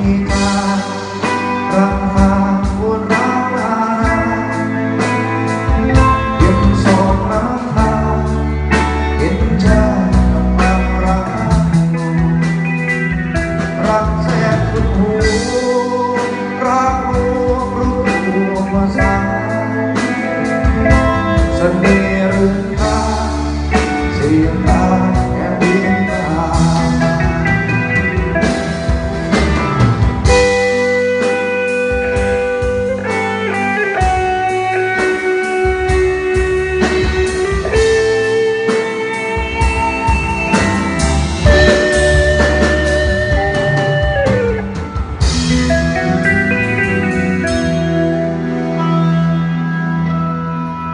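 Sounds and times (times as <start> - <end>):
person singing: 0.0 - 12.6, 13.4 - 28.8, 30.2 - 50.9
blues rock band playing: 0.0 - 50.9
bending guitar notes: 3.2 - 50.9.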